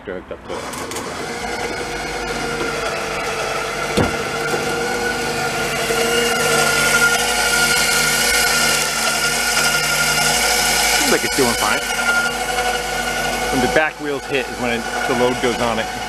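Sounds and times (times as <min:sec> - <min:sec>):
winch motor whining: 0:00.4 - 0:16.0.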